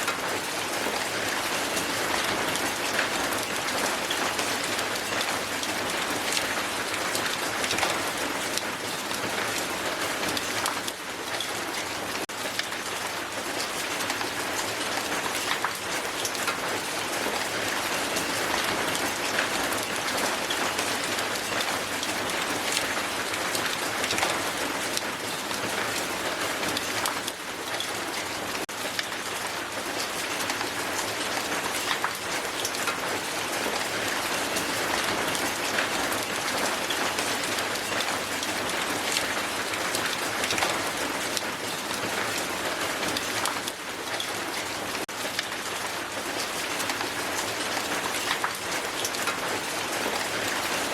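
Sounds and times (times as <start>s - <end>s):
hail striking the ground: 0.0s - 50.9s.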